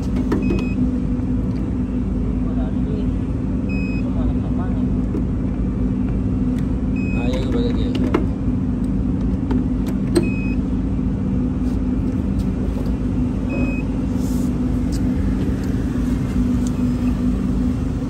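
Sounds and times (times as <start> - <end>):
engine rumble: 0.0 - 18.0.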